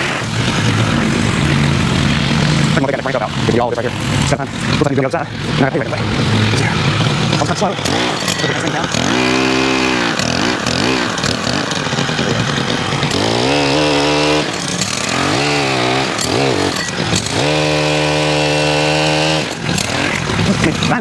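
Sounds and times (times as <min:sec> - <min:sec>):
pole saw engine revving: 0:00.0 - 0:21.0.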